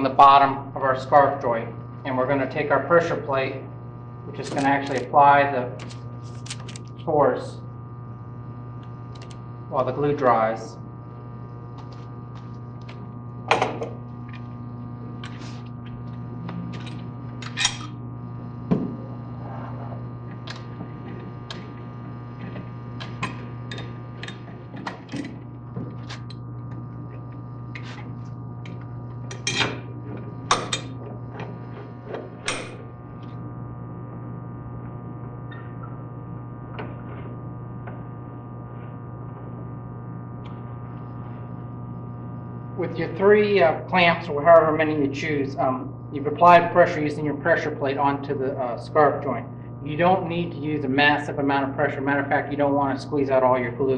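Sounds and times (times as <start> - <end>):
steady electrical hum: 0.0 - 53.9.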